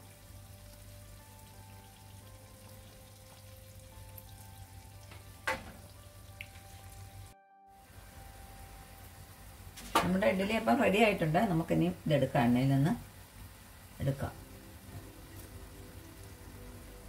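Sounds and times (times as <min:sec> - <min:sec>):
oil sizzling and bubbling in a pan: 0:00.0 - 0:17.0.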